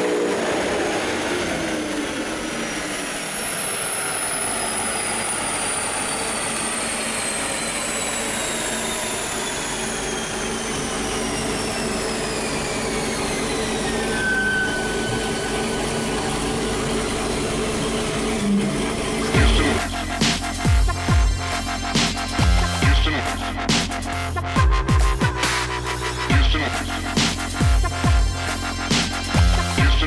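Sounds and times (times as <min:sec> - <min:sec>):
high mechanical whine: 0:00.0 - 0:30.0
low hum of dyno rollers: 0:00.0 - 0:30.0.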